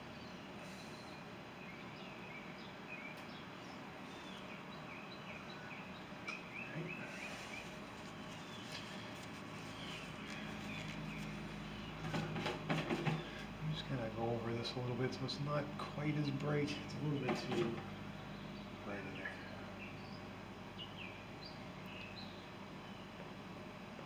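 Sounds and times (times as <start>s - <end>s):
small birds chirping: 0.0s - 23.6s.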